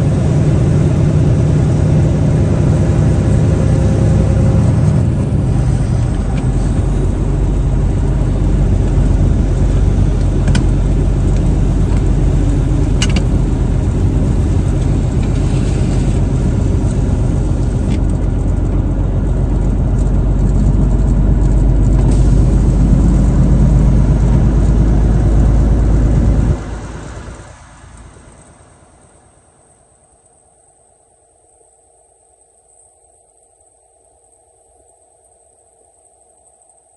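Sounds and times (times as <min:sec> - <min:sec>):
truck engine drone: 0:00.0 - 0:30.0
road noise: 0:00.0 - 0:30.2.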